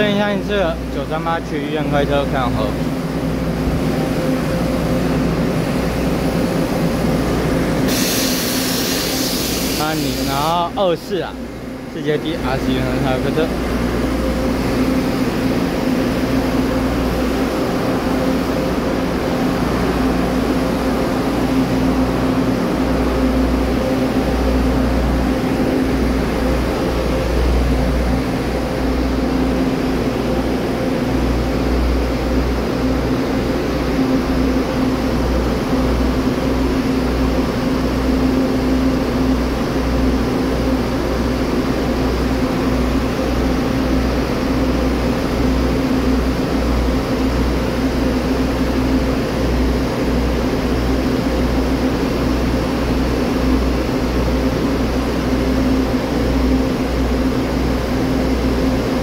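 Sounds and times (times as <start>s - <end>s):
constant hum: 0.0s - 59.0s
diesel railcar engine idling: 0.0s - 59.0s.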